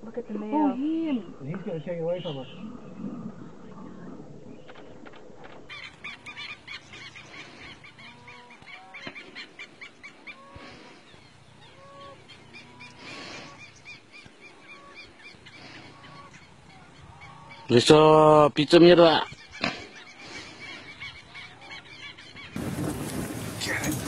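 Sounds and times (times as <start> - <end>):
flock of birds calling: 1.5 - 24.0.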